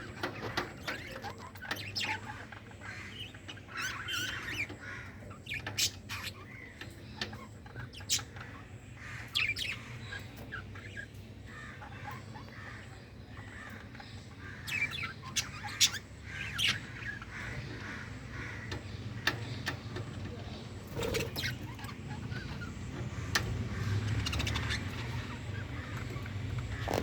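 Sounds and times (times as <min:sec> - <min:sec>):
budgerigars chirping and squawking: 0:00.0 - 0:27.0.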